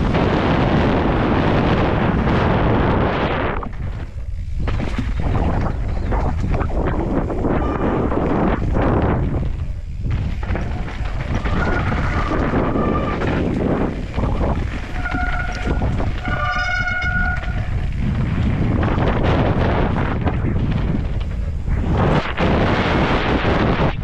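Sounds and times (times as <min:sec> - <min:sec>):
bike rattling: 0:00.0 - 0:24.0
high steady whine: 0:00.0 - 0:24.0
tyres over dirt and gravel: 0:00.0 - 0:24.0
wind rumble on microphone: 0:00.0 - 0:24.0.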